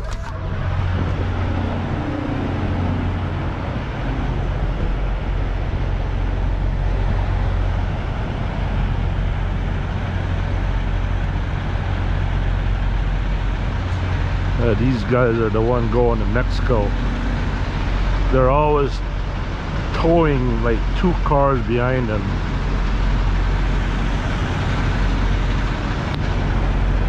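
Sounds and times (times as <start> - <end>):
diesel trucks rumbling: 0.0 - 27.0
truck driving past: 0.0 - 27.0.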